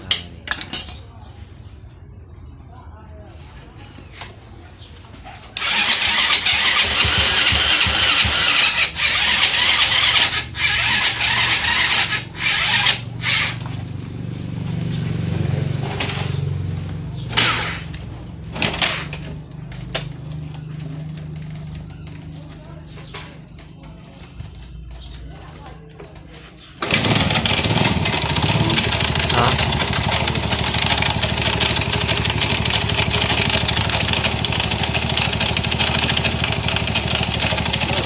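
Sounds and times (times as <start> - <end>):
motorcycle engine starting and idling: 5.4 - 38.0.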